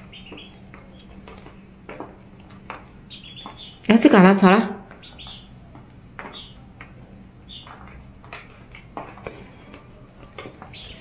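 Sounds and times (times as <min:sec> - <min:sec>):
bills tapping on feed: 0:00.0 - 0:03.9, 0:04.8 - 0:11.0
ducklings peeping: 0:00.0 - 0:11.0.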